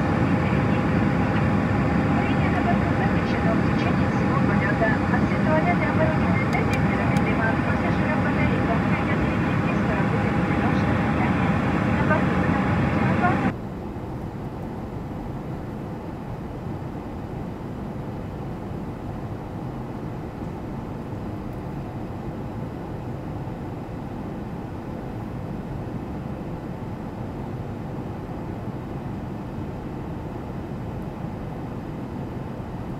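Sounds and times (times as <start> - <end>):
airliner cabin engine drone: 0.0 - 32.9
faint steady hum: 0.0 - 32.9.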